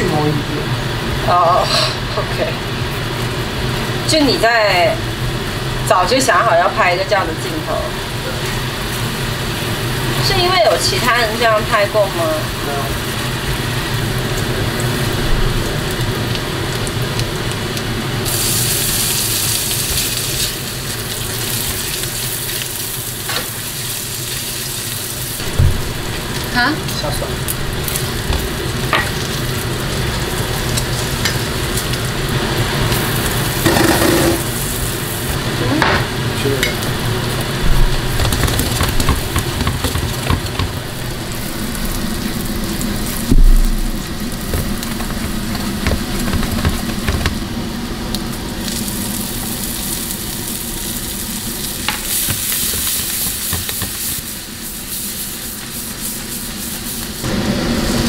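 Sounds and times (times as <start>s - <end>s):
onion sizzling in frying pan: 0.0s - 58.0s.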